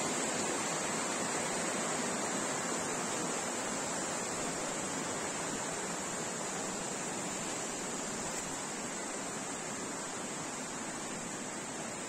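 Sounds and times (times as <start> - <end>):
high-pitched hiss: 0.0 - 12.0
stream water rushing over rocks: 0.0 - 12.0.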